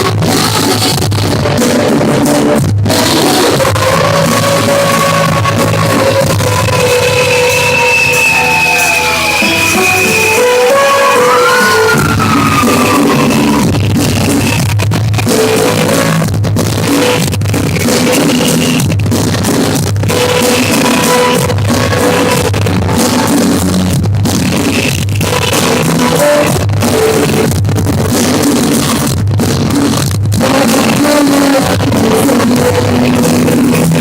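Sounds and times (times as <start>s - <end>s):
rock music with guitar and drums: 0.0s - 34.0s.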